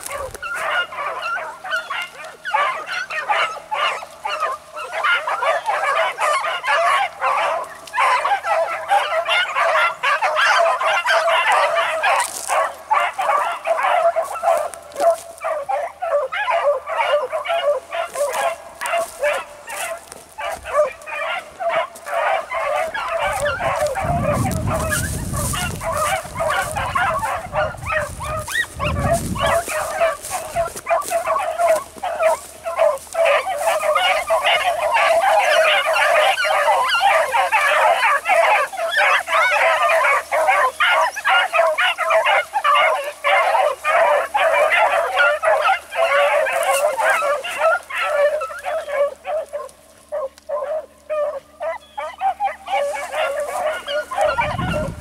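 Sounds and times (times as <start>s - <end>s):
hounds baying and yelping: 0.0s - 55.0s.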